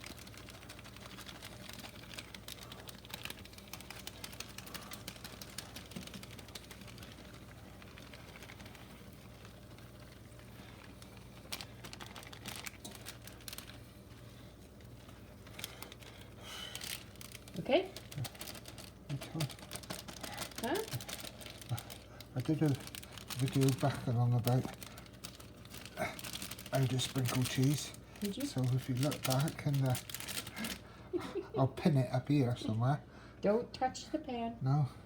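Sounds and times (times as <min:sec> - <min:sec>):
cheese sprinkled on potatoes: 0:00.0 - 0:31.0.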